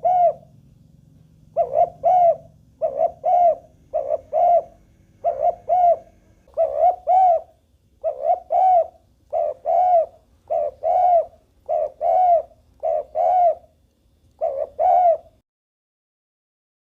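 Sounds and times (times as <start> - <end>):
dove cooing: 0.0 - 13.8, 14.4 - 15.4.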